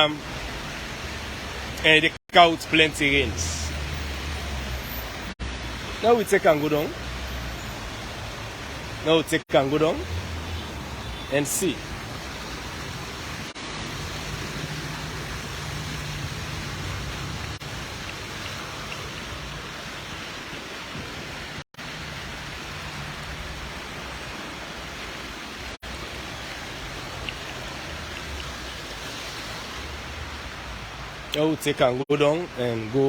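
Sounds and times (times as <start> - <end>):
rushing outdoor noise: 0.0 - 33.0.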